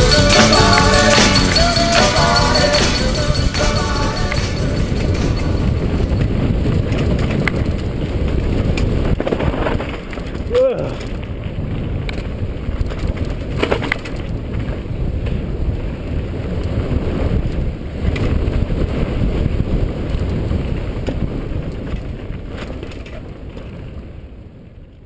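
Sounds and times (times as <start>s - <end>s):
wind rushing over microphone: 0.0s - 25.0s
bike tyre and trail noise: 2.6s - 25.0s.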